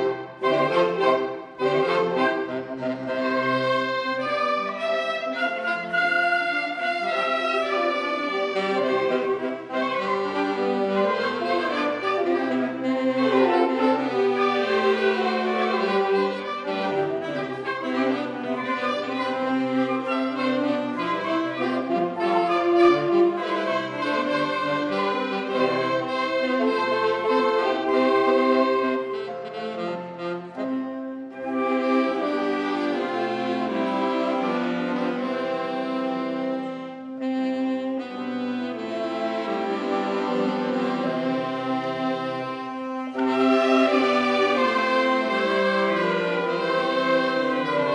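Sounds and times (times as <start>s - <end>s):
wind band playing: 0.0s - 47.9s.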